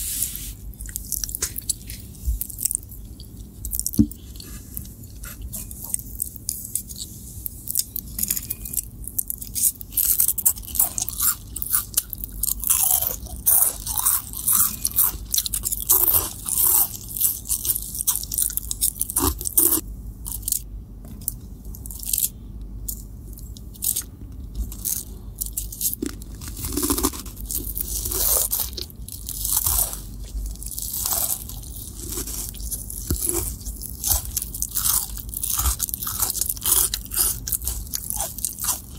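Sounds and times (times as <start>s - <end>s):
crunching and chewing snacks: 0.6s - 38.9s.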